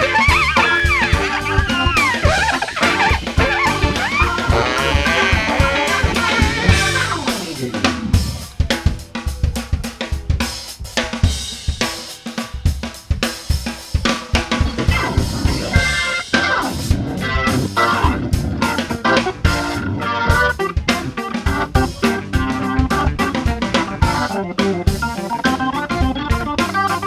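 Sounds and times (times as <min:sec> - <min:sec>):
bass line: 0:00.0 - 0:11.4, 0:14.4 - 0:27.0
keyboard and guitar chords: 0:00.0 - 0:12.4, 0:13.7 - 0:27.0
drum kit playing: 0:00.0 - 0:27.0.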